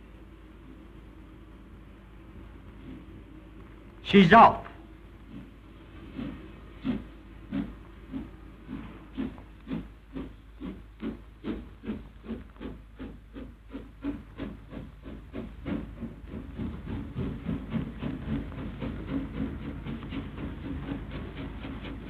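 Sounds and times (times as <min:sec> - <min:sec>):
steam locomotive exhaust chuffs: 0:00.0 - 0:22.0.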